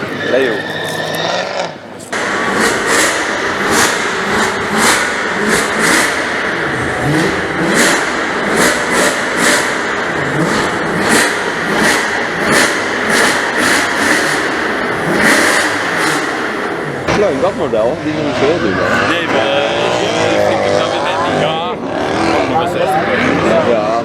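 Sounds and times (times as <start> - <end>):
exhaust cracks: 0.0 - 21.0
car engine revving: 0.0 - 24.0.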